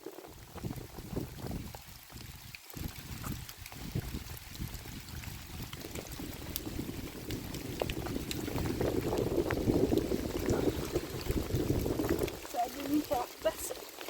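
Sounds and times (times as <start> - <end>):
bubbling pouring liquid: 0.0 - 14.0.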